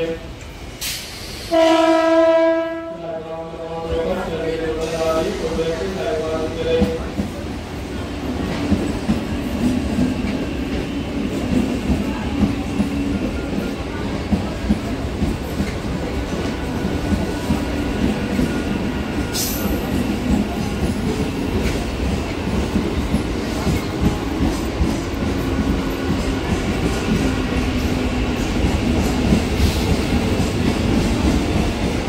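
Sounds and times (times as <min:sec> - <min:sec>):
low train hum: 0:00.0 - 0:32.0.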